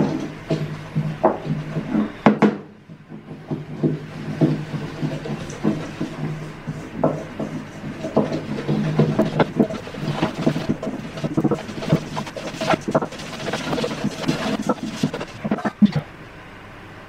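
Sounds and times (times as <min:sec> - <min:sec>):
whisk scraping a steel bowl: 0:00.0 - 0:02.2, 0:02.9 - 0:16.0
sharp knocks: 0:00.0 - 0:15.5.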